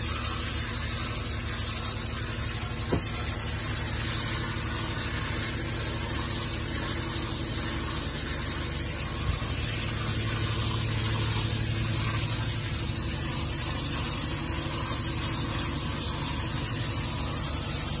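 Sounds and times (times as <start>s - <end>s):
low motor hum: 0.0s - 18.0s
water spraying onto dog's coat: 0.0s - 18.0s.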